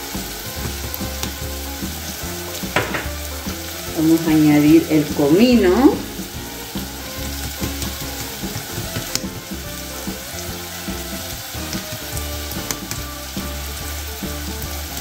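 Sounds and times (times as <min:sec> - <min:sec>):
oil popping: 0:00.0 - 0:15.0
onion sizzling in oil: 0:00.0 - 0:15.0.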